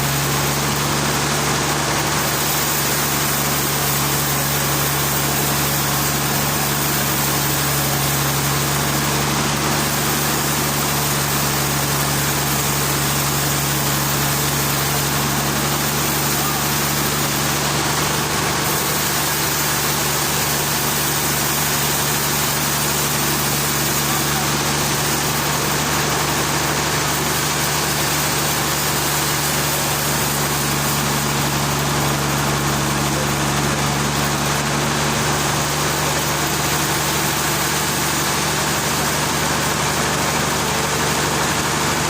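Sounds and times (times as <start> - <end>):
machine humming with hiss: 0.0 - 42.0.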